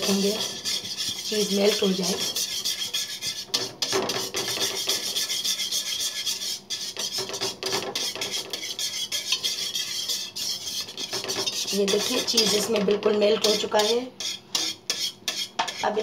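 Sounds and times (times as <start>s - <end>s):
whisk scraping metal pot: 0.0s - 16.0s.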